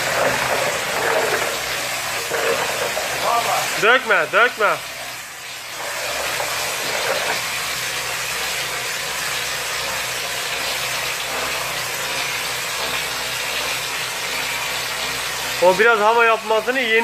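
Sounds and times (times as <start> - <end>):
spray gun hissing: 0.0 - 17.0.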